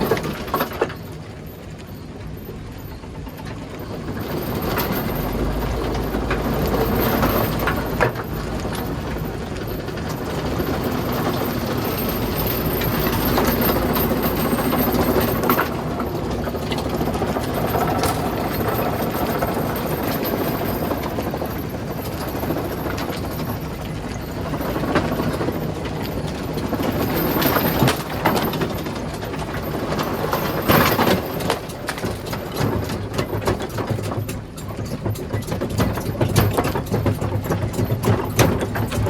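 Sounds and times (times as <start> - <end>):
rock crusher machinery running: 0.0 - 39.0.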